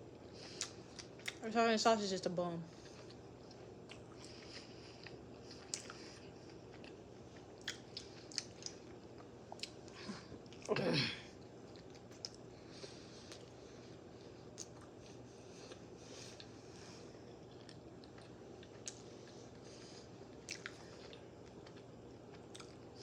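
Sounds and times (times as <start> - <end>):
chewing with mouth clicks: 0.4 - 1.4, 2.7 - 10.7, 11.4 - 13.6, 14.2 - 16.6, 17.3 - 23.0.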